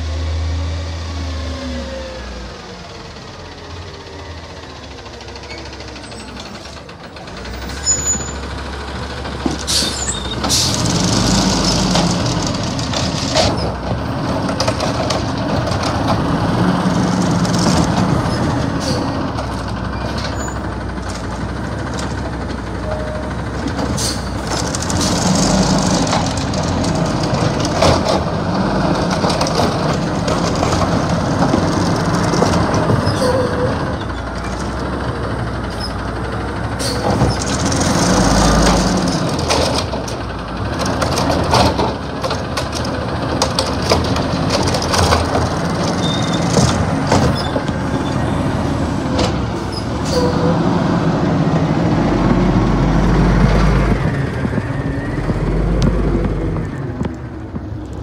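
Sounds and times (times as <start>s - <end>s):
garbage truck engine running: 2.0s - 58.0s.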